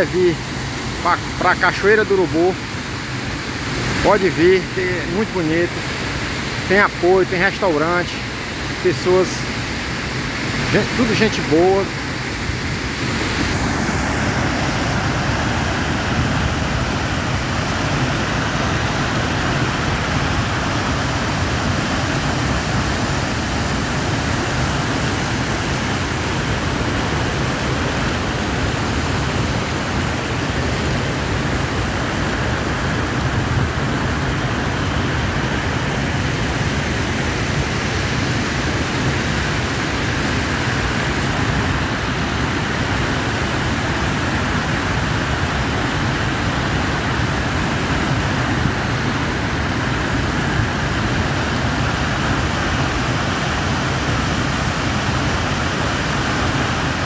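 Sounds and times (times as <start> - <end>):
churning floodwater: 0.0 - 57.0
waterfall rushing: 0.0 - 57.0.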